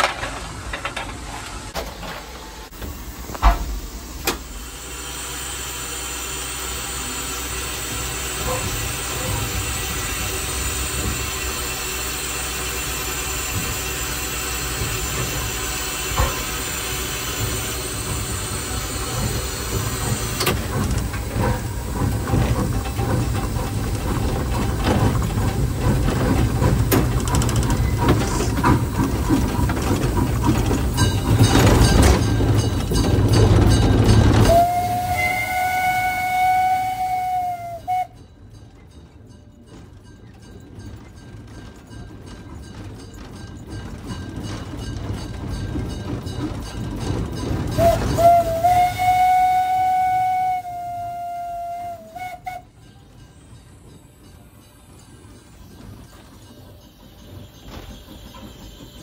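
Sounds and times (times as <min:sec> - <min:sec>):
steam locomotive hissing steam: 0:00.1 - 0:38.5, 0:41.3 - 0:59.0.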